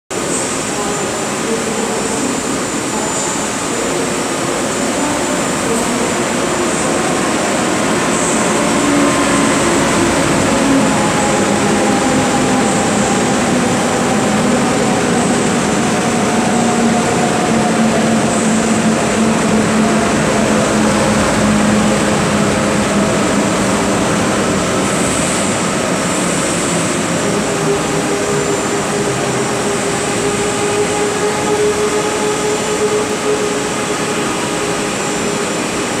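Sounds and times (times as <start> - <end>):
train wheels rumbling on rail: 0.1 - 36.0.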